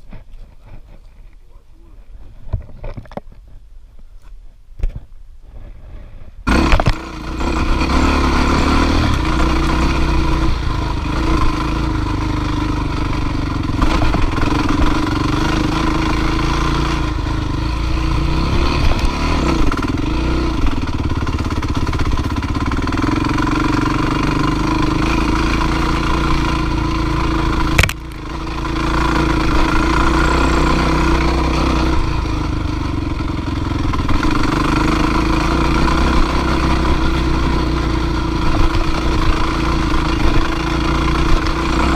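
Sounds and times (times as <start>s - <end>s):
dirt bike engine running: 6.4s - 41.9s.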